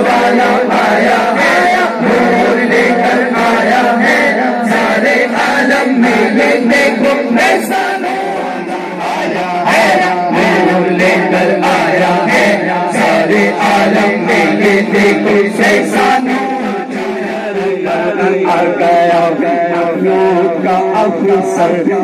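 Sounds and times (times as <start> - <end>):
group chanting devotional song: 0.0 - 22.0.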